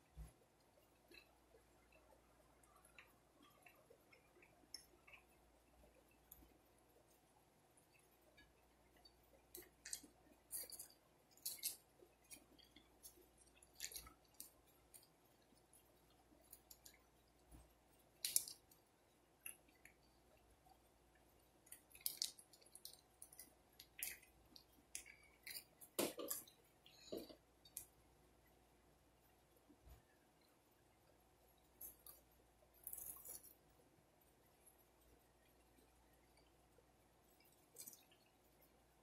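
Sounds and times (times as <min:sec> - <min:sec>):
crackles of crisp food: 0:00.0 - 0:39.0.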